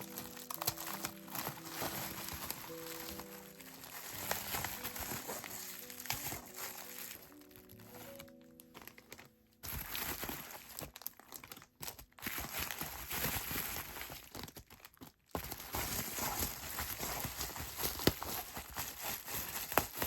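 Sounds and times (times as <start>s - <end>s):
paper and packaging crinkling: 0.0s - 20.0s.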